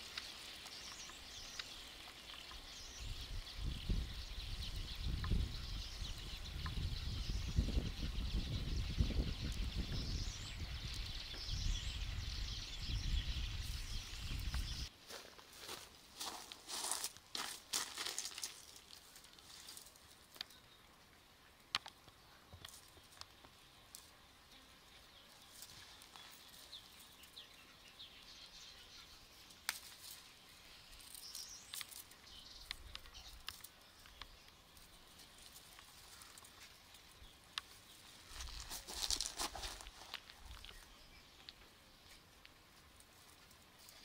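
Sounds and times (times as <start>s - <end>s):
leaves and dry grass rustling: 0.0s - 44.0s.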